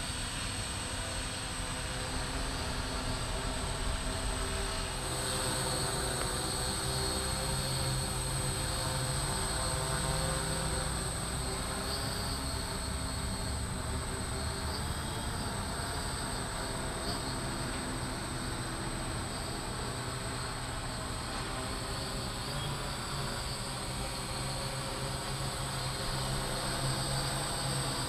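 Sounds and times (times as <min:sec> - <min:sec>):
multi-rotor drone flying: 0:00.0 - 0:28.0.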